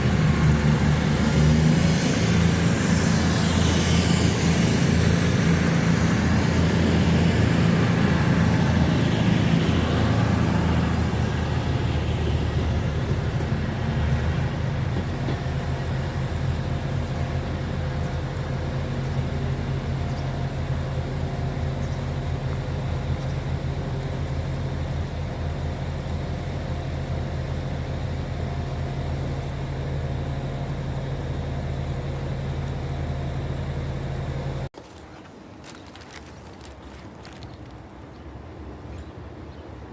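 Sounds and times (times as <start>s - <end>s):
diesel train engine humming: 0.0s - 39.9s.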